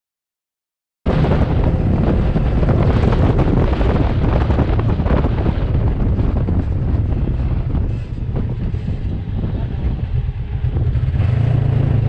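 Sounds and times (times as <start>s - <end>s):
vehicle engine rumbling: 1.1s - 12.0s
wind noise on microphone: 1.1s - 12.0s.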